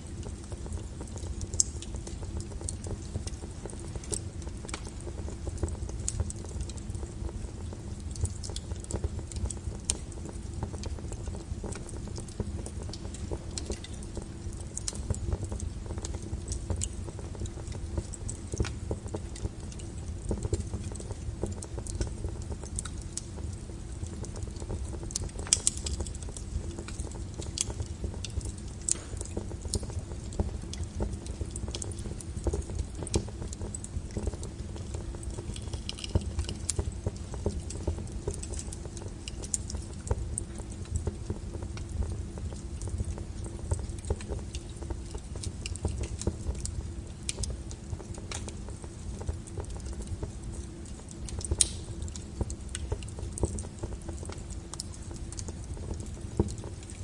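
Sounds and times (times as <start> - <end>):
wood fire crackling and popping: 0.0 - 57.0
low rush of flame: 0.1 - 56.9.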